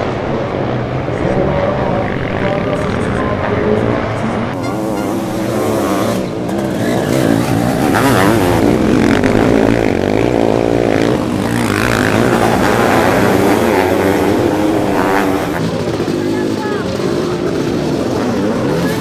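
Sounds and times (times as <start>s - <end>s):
motocross engines revving: 0.0s - 19.0s.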